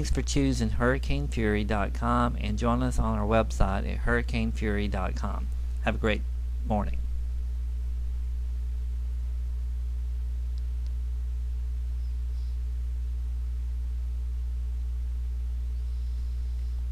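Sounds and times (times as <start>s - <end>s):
electrical mains hum: 0.0s - 16.9s.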